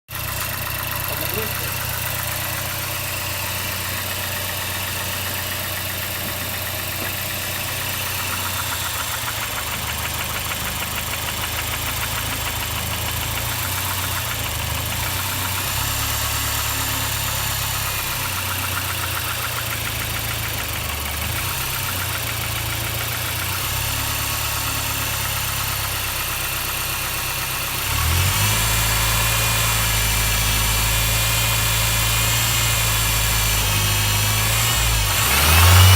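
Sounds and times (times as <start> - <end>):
car engine idling: 0.1 - 35.9.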